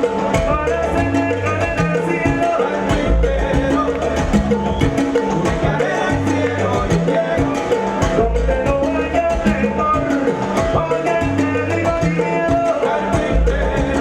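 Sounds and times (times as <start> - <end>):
salsa band music: 0.0 - 14.0.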